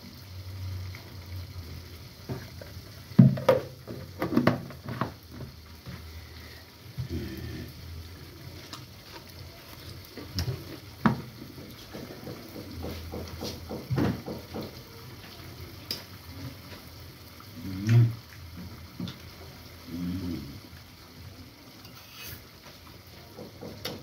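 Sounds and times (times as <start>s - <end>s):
pan sizzling: 0.0s - 24.0s.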